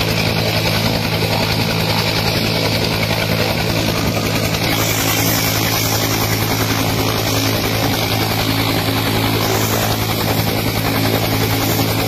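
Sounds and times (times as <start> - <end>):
helicopter engine and rotor running: 0.0 - 12.0.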